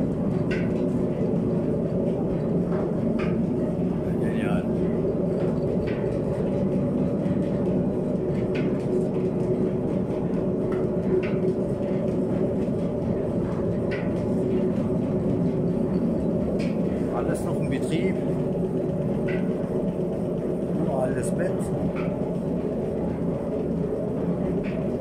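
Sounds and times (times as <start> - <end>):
mill machinery droning: 0.0 - 25.0.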